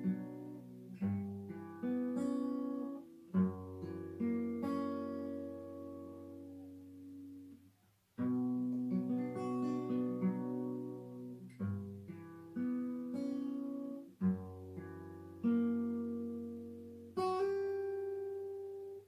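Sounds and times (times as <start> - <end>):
acoustic guitar chords: 0.0 - 7.6, 8.2 - 19.0.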